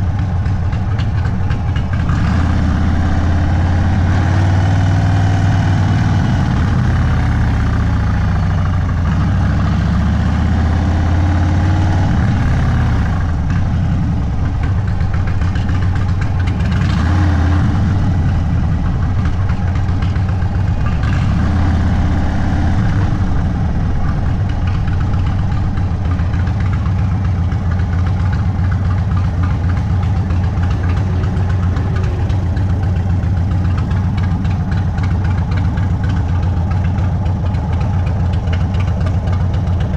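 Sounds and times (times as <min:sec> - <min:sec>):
motorcycle v-twin engine revving: 0:00.0 - 0:39.9.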